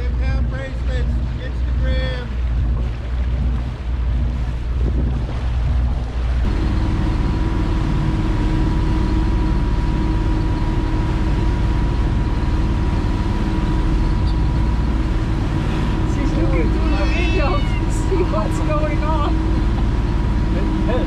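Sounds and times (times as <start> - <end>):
boat engines droning: 0.0 - 21.0
steady whine: 0.0 - 21.0.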